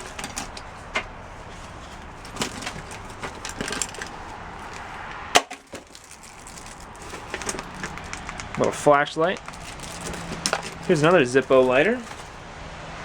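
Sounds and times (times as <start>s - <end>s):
small objects knocking and rattling: 0.0s - 12.4s.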